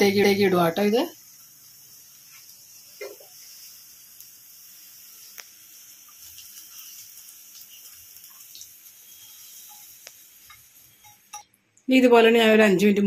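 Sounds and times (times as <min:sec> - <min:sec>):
faint steady hiss: 0:00.0 - 0:12.6.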